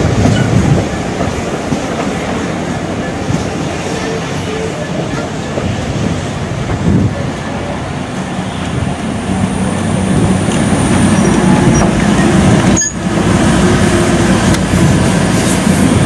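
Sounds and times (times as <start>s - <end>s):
train coaches rolling on rails: 0.0s - 16.0s.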